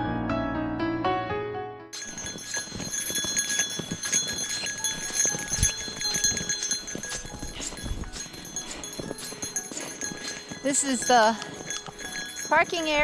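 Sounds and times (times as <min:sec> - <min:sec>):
footsteps crunching on snow: 0:02.0 - 0:13.0.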